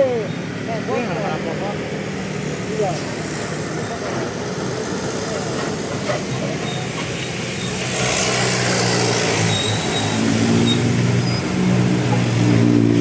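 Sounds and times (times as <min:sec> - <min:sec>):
heavy vehicle engine running: 0:00.0 - 0:13.0
passing traffic tyre noise: 0:00.0 - 0:13.0.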